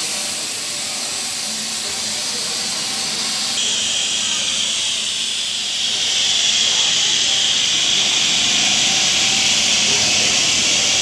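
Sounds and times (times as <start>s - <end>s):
hissing machinery noise: 0.0s - 11.0s.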